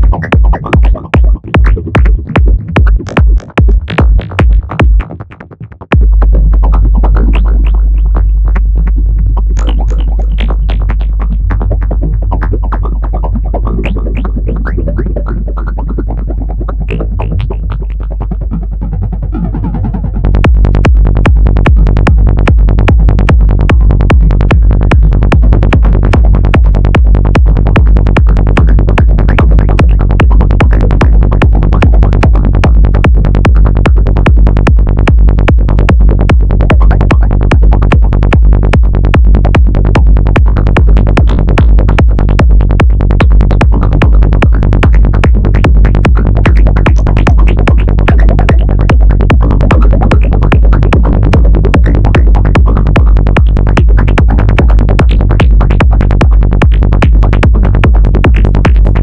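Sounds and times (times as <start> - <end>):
sequenced synth tones: 0.0 - 18.6, 20.2 - 59.0
pulsing synth bass: 0.0 - 59.0.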